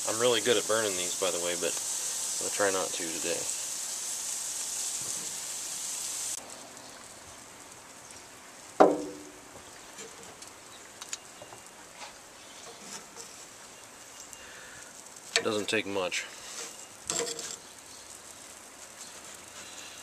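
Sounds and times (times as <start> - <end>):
butter sizzling on a grill: 0.0 - 20.0.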